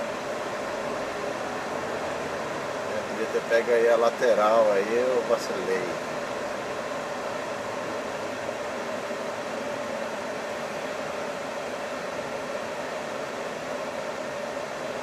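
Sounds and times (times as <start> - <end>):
constant mid-pitched hum: 0.0 - 15.0
truck cab engine and road noise: 0.0 - 15.0.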